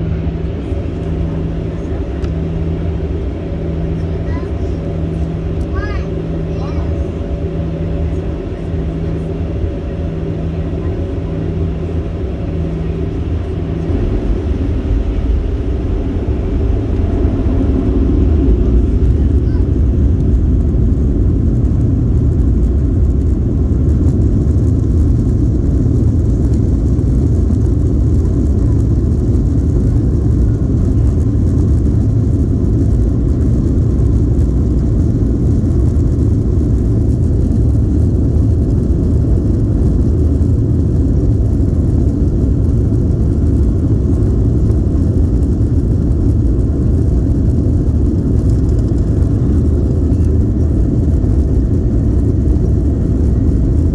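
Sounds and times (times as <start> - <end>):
jet engines and airflow rumble: 0.0 - 53.9.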